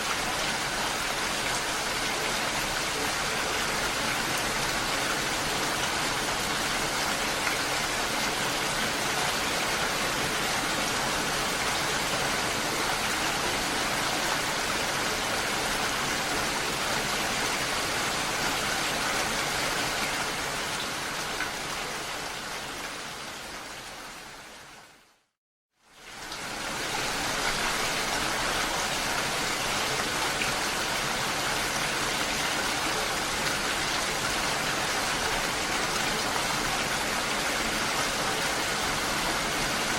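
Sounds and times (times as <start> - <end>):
rushing water: 0.0 - 25.2, 25.8 - 39.9.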